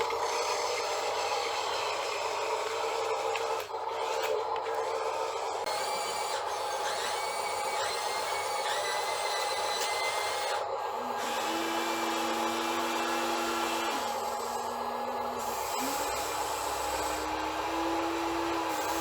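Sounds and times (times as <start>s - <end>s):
small electric motors whirring: 0.0s - 19.0s.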